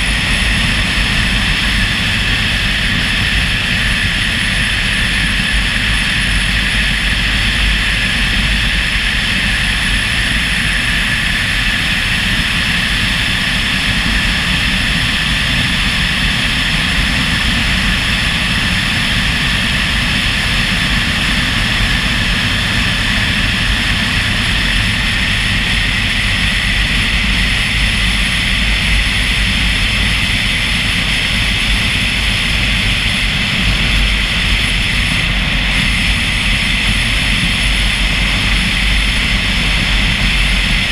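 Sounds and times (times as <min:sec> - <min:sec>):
vehicle engine drone: 0:00.0 - 0:40.9.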